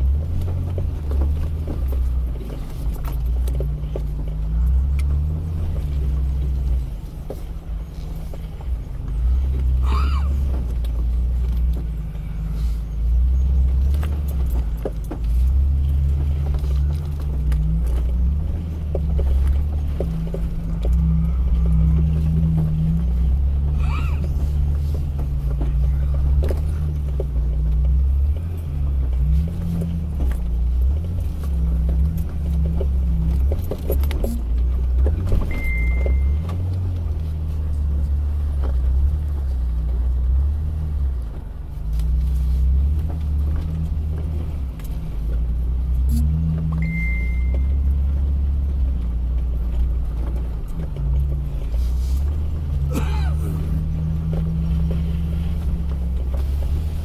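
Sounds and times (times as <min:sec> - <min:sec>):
engine rumbling: 0:00.0 - 0:57.0.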